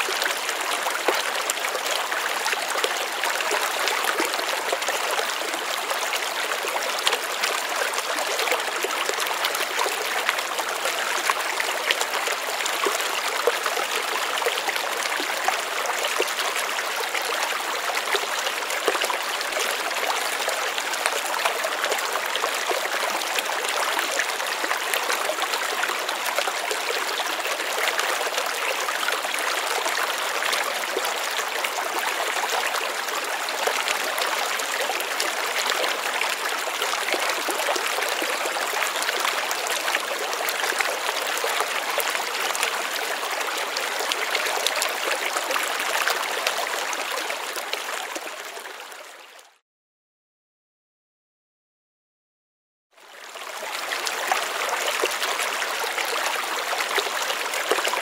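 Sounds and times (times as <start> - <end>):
stream water flowing over stones: 0.0 - 49.6, 53.0 - 58.0.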